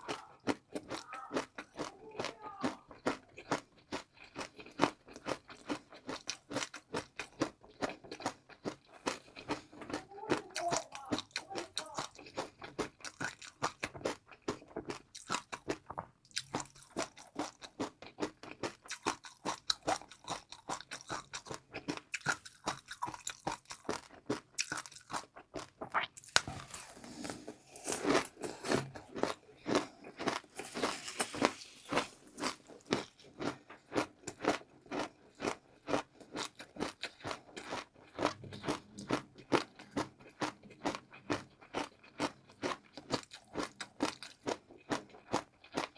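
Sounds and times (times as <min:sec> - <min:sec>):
crunching and chewing food: 0:00.0 - 0:45.9.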